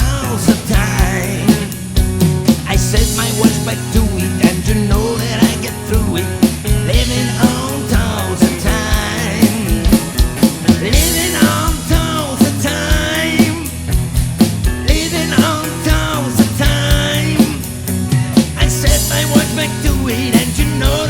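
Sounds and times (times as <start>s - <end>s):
bass: 0.0s - 21.0s
rock band playing: 0.0s - 21.0s
steady drum beat: 0.0s - 21.0s.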